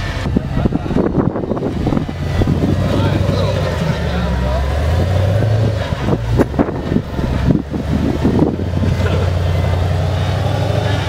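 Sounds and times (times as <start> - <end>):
off-road vehicle rumbling: 0.0 - 11.0.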